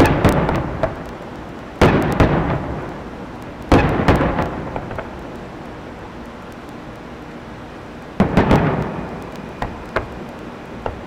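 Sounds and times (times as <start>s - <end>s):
fireworks bursting: 0.0s - 11.0s
rolling rumble: 0.0s - 11.0s
small cracks: 0.0s - 11.0s.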